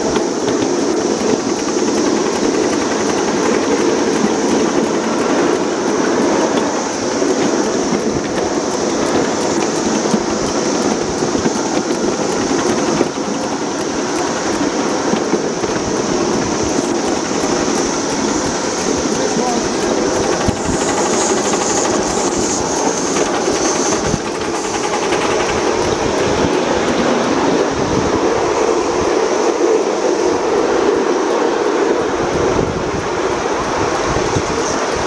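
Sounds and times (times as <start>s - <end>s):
small wheels clattering on rails: 0.0s - 35.0s.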